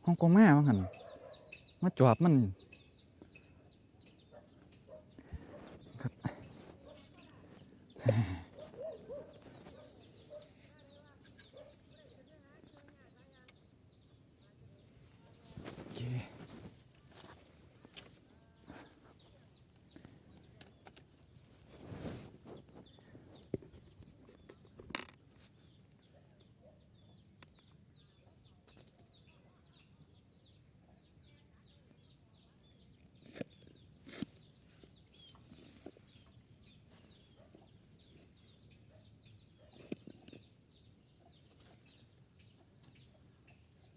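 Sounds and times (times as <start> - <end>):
birds chirping: 0.0 - 24.7, 25.3 - 43.9.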